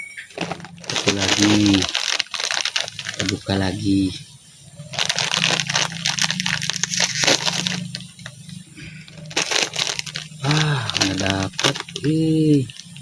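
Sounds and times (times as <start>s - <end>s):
plastic snack packet crinkling: 0.3s - 3.9s, 4.8s - 8.5s, 9.1s - 13.0s.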